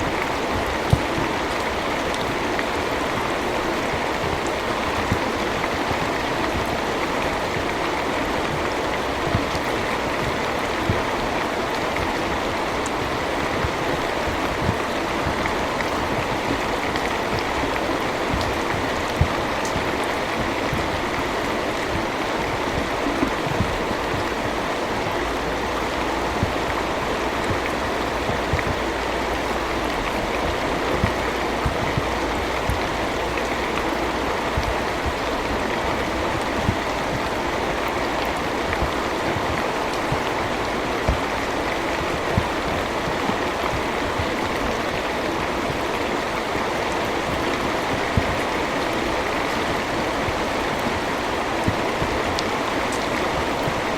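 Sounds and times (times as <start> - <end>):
heavy rain hissing: 0.0 - 53.9.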